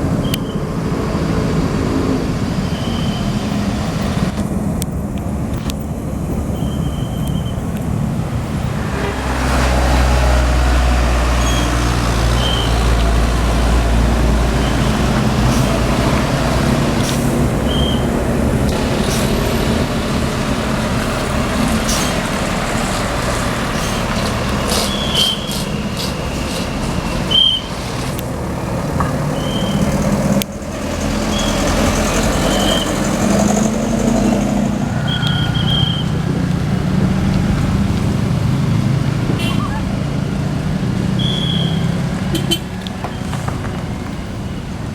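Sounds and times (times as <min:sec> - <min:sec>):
diesel bus engine rumbling: 0:00.0 - 0:44.9
road traffic: 0:00.0 - 0:44.9.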